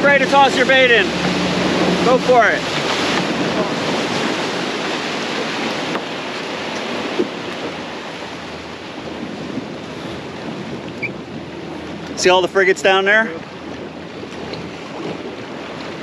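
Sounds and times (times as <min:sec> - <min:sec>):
water churning in boat wake: 0:00.0 - 0:16.0
wind on microphone: 0:00.0 - 0:16.0.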